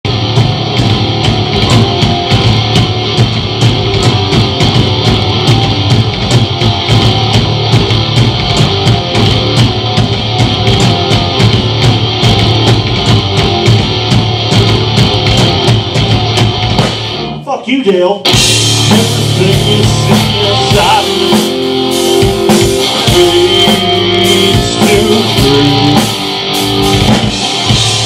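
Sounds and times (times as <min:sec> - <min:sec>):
fast steady drumbeat: 0:00.0 - 0:17.2, 0:18.3 - 0:28.0
electric guitars and bass: 0:00.0 - 0:28.0.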